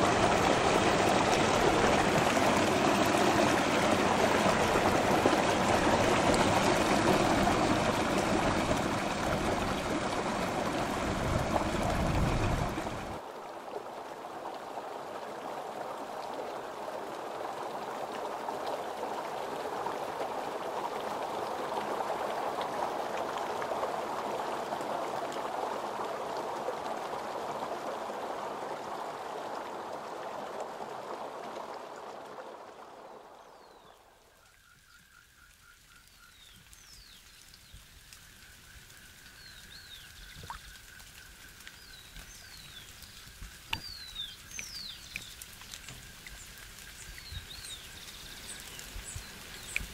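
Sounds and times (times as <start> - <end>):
stream running over rock: 0.0 - 49.9.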